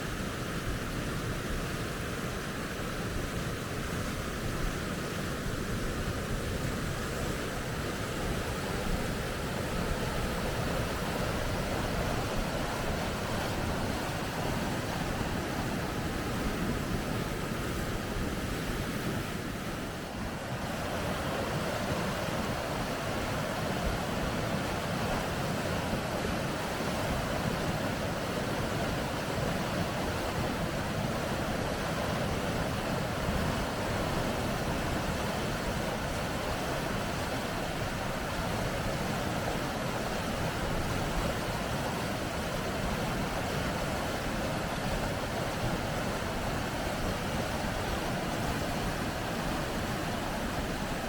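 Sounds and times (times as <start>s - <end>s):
river rapids roaring: 0.0s - 51.0s.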